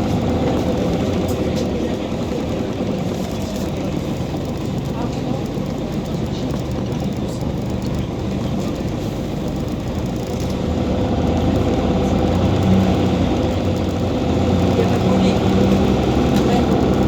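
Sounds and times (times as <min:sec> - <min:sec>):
bus diesel engine humming: 0:00.0 - 0:17.0
road rumble: 0:00.0 - 0:17.0.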